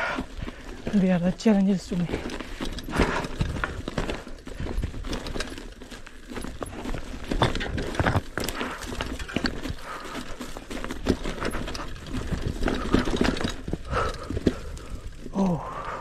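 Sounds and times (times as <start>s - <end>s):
bike rattling: 0.0s - 16.0s
bike tyres crunching on stones: 0.0s - 16.0s.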